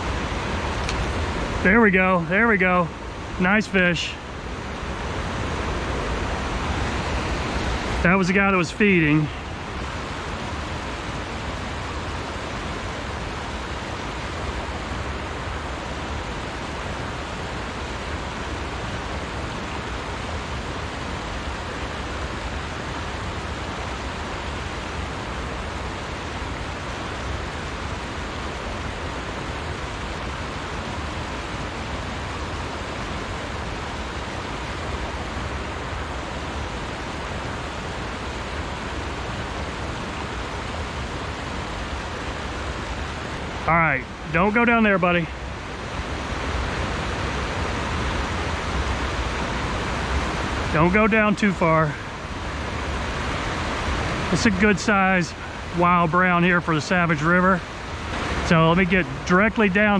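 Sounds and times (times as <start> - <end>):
rocky stream rushing: 0.0 - 59.9.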